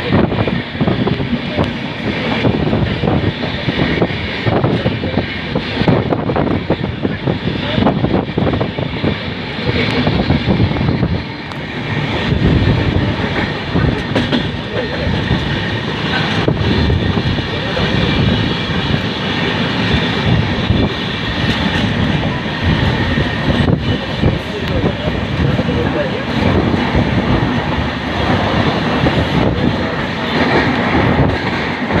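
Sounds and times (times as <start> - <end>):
train wheels rumbling and rattling: 0.0 - 32.0.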